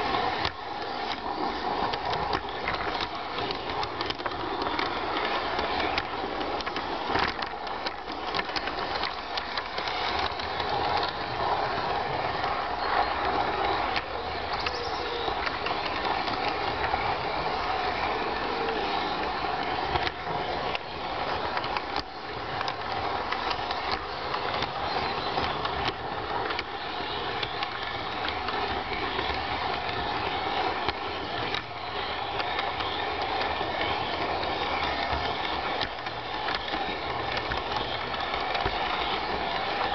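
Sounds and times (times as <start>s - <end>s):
model train motor running: 0.0s - 39.9s
wheels clattering on rail: 0.0s - 39.9s.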